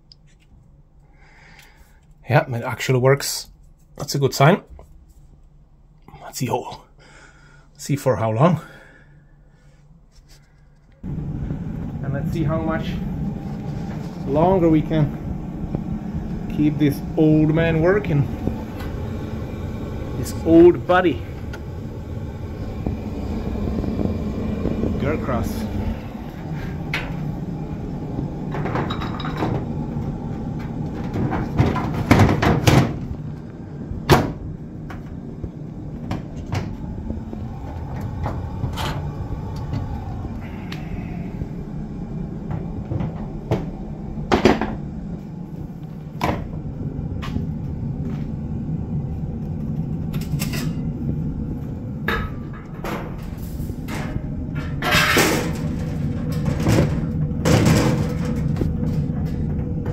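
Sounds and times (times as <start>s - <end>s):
oil boiler burner humming: 10.8s - 59.9s.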